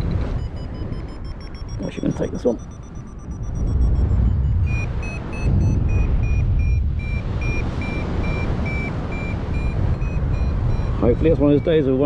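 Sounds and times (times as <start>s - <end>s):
variometer beeping in high pips: 0.0s - 12.0s
wind rush on microphone: 0.0s - 12.0s.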